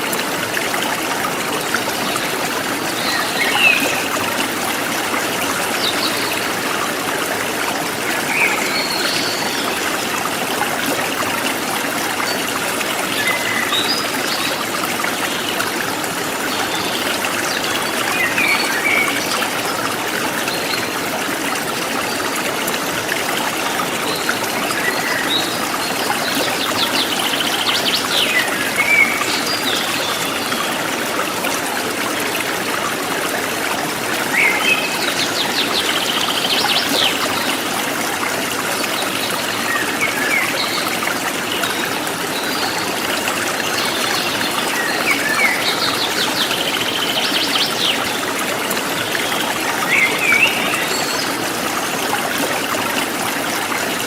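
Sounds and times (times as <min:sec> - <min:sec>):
stream trickling: 0:00.0 - 0:54.0.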